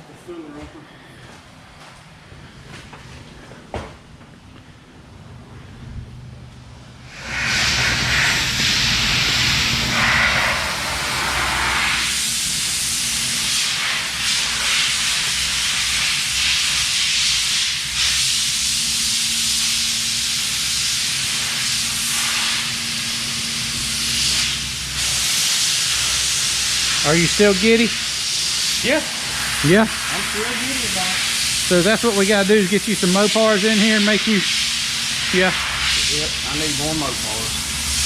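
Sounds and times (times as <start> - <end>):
pressurised jet hissing: 7.0 - 38.0.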